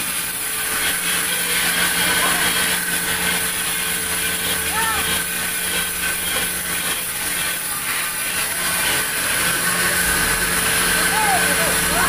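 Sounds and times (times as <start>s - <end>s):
band saw running with high whine: 0.0s - 12.0s.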